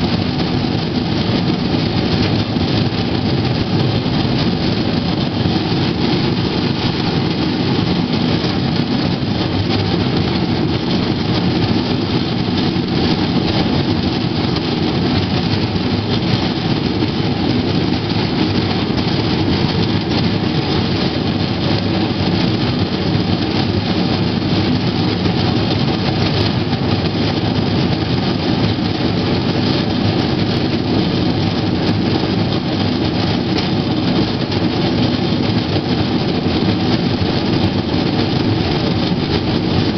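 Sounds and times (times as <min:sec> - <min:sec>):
steel wheels rolling on track: 0:00.0 - 0:39.9.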